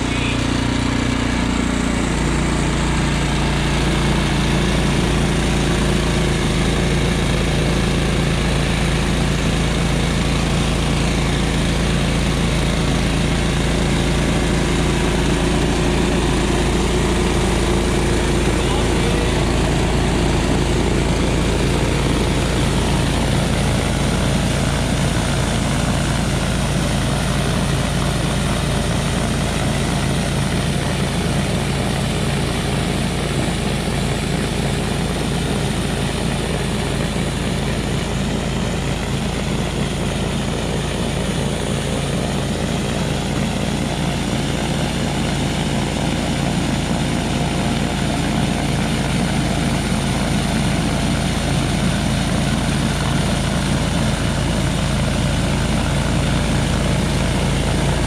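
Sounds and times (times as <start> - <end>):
snowblower engine running: 0.0 - 58.0
snowblower throwing wet snow: 0.0 - 58.0.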